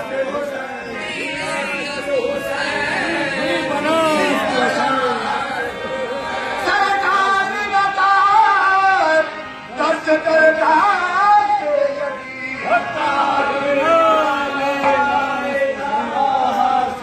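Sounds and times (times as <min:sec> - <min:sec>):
devotional singing with music: 0:00.0 - 0:17.0.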